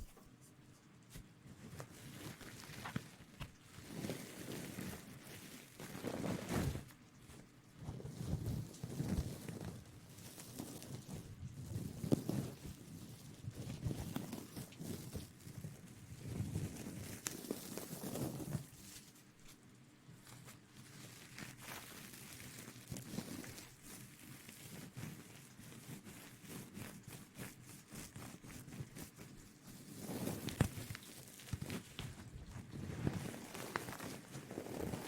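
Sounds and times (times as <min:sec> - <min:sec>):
close rustling and crinkling: 0:00.0 - 0:35.0
small clicks and crackles: 0:00.0 - 0:35.0.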